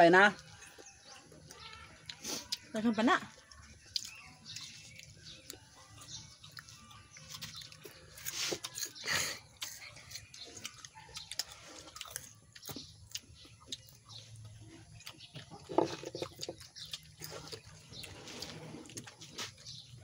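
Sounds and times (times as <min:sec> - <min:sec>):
chewing crunchy food: 0:00.1 - 0:20.0.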